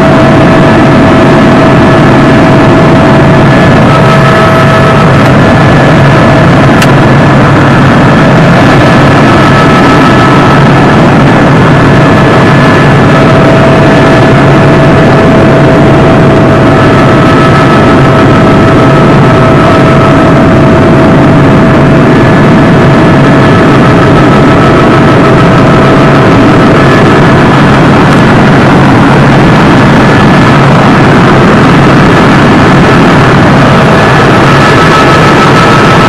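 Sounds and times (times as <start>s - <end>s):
helicopter turbine and rotor noise: 0.0s - 36.0s
steady whining tones: 0.0s - 36.0s.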